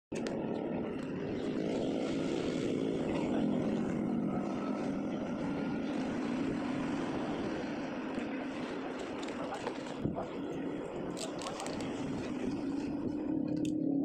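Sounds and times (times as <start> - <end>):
road traffic rumble: 0.1 - 14.0.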